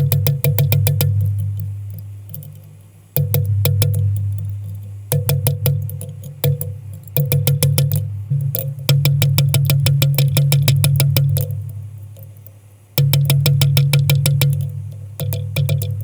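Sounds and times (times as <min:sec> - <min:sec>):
ticking percussion: 0:00.0 - 0:16.0.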